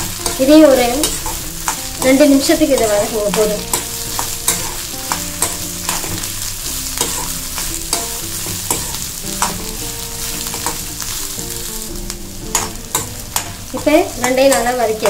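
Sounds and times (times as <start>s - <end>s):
metal spoon scraping a pan: 0.0s - 15.0s
oil sizzling: 0.0s - 15.0s.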